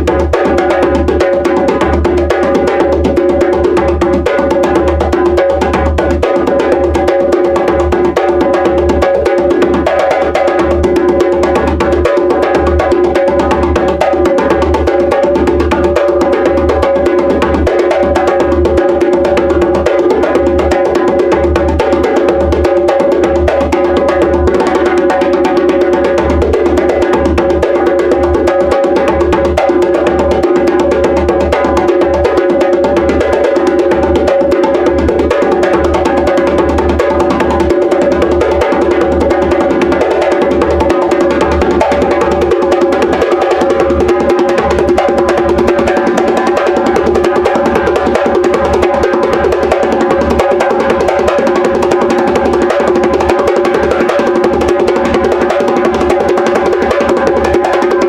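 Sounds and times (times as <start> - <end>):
fast steady drumming: 0.0 - 58.0.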